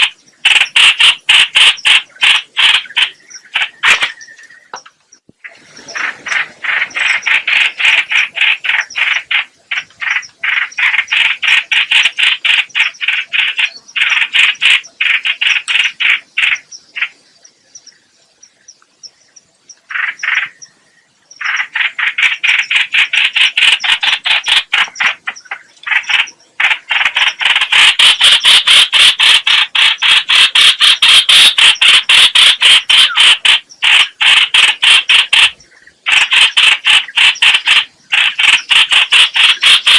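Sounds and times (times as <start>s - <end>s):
bird rapid chattering calls: 0.0s - 18.0s, 19.9s - 20.7s, 21.3s - 39.9s.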